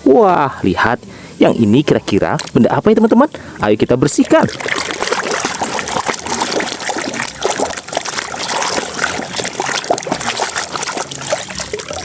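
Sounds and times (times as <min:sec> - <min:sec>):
water trickling and splashing: 0:01.5 - 0:12.0.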